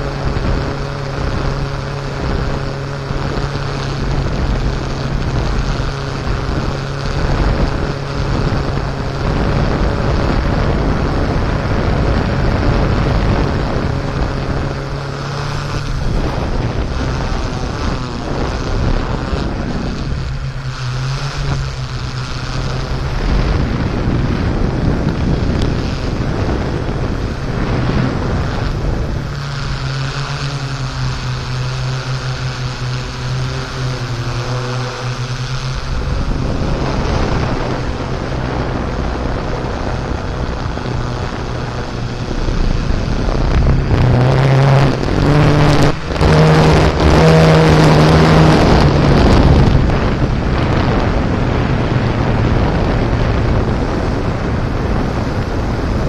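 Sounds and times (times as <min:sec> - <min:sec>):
drone propellers humming: 0:00.0 - 0:56.0
wind noise on microphone: 0:00.0 - 0:56.0.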